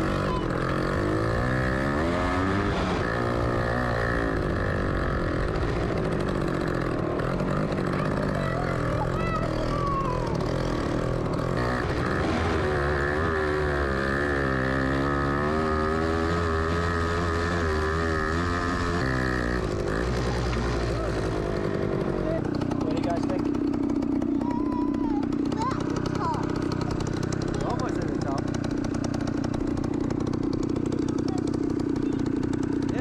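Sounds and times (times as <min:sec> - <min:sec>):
off-road vehicle engine labouring: 0:00.0 - 0:33.0.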